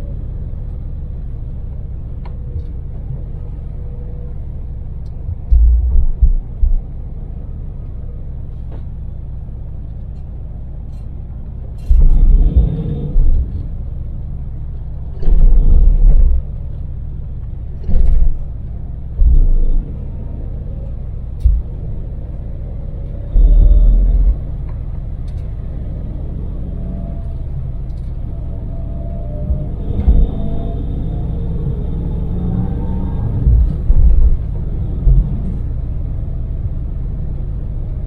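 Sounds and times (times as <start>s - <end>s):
louder low rumbles: 0.0s - 10.0s, 11.0s - 38.0s
van engine and road noise: 0.0s - 38.0s.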